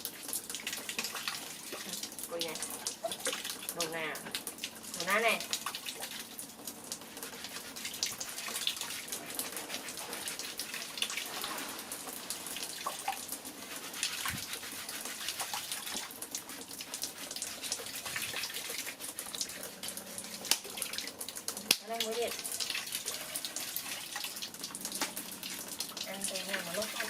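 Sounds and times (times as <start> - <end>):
water running and splashing: 0.0 - 27.0.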